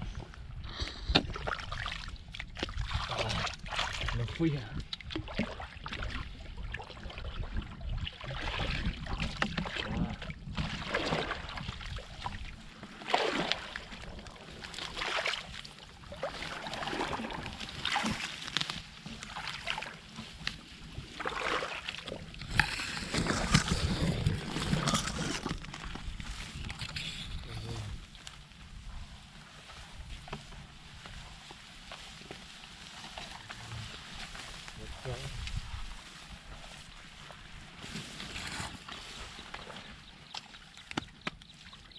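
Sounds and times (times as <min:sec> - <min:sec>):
wading through muddy water: 0:00.0 - 0:41.9.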